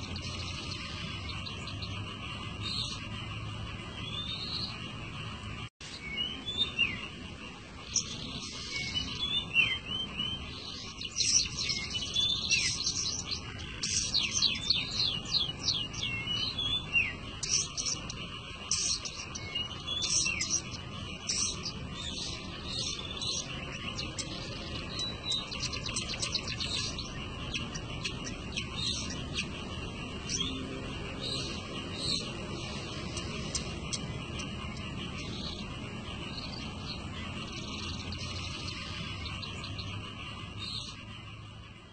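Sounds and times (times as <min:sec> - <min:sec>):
bird singing chirps and trills: 0:00.0 - 0:41.9.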